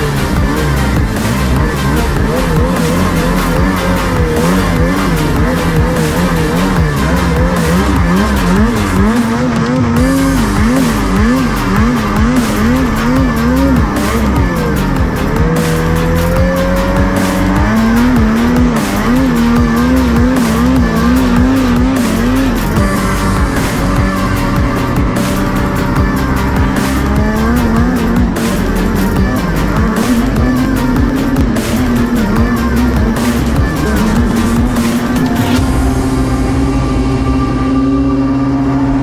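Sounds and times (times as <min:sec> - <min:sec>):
snowmobile engine revving: 0:00.0 - 0:39.0.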